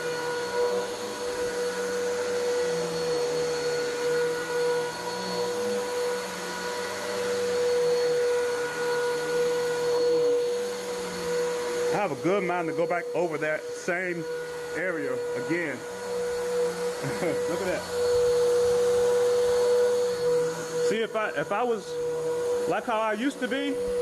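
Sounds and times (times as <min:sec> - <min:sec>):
vacuum cleaner on carpet: 0:00.0 - 0:24.0.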